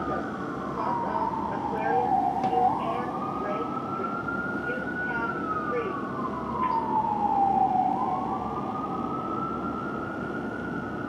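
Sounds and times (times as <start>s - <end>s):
fire engine siren wailing: 0.0s - 11.0s
road and engine noise: 0.0s - 11.0s.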